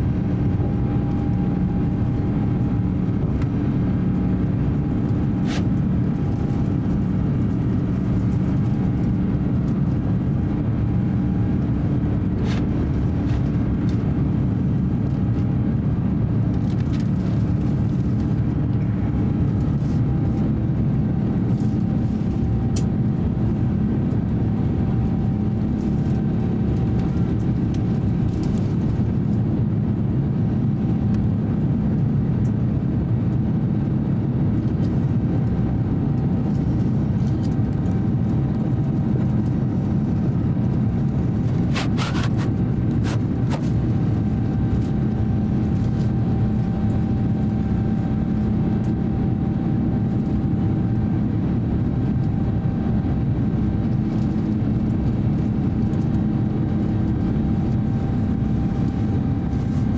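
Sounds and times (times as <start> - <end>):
airflow around fuselage: 0.0 - 59.9
jet engine drone: 0.0 - 59.9.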